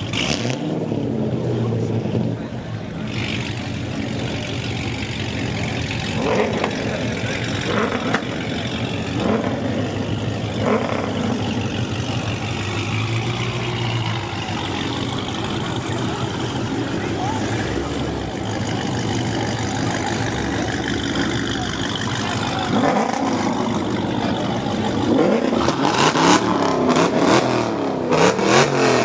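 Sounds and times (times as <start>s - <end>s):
car engines idling: 0.0s - 29.0s.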